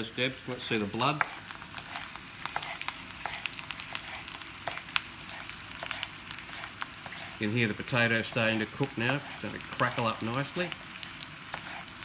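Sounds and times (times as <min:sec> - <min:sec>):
potato sizzling in oil: 0:00.0 - 0:12.0.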